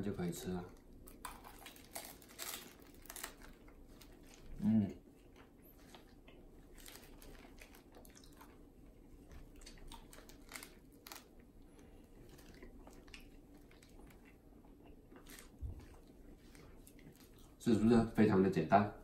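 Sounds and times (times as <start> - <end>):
biting and chewing crunches: 0.8 - 4.5, 5.2 - 17.6.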